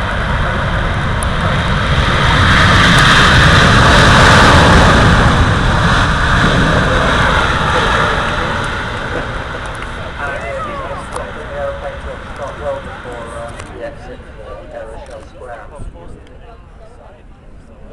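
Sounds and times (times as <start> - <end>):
jet airliner passing: 0.0 - 17.9.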